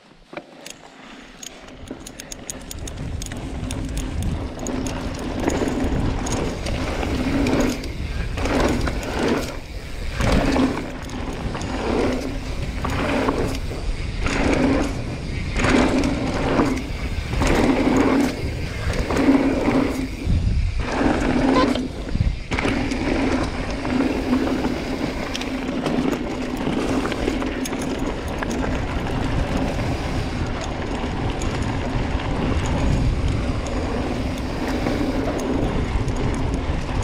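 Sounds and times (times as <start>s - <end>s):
bicycle freewheel clicking: 0.6s - 37.0s.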